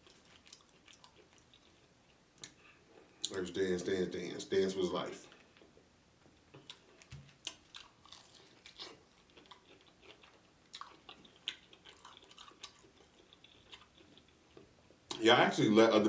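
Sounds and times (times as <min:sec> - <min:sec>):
person chewing crispy food: 0:00.0 - 0:03.4, 0:05.3 - 0:15.2.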